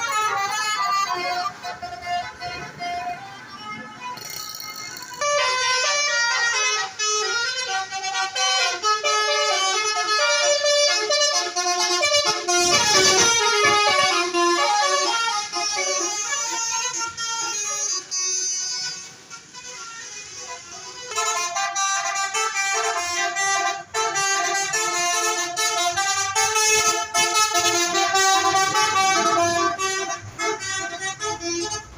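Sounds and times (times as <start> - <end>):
air horn playing a tune: 5.2 - 31.9.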